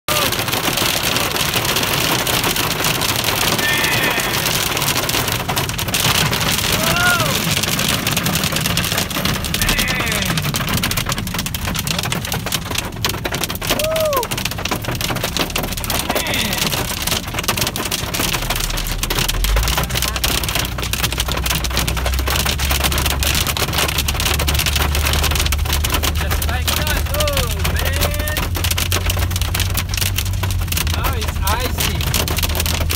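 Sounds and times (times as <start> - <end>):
hail pelting a car roof: 0.1 - 32.9
low car rumble: 0.1 - 32.9.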